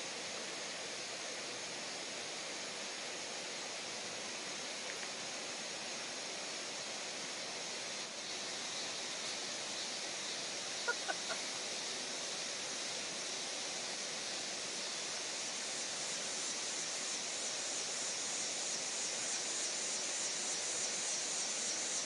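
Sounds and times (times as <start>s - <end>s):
high insect drone: 0.0s - 22.0s
outdoor background hiss: 0.0s - 22.0s.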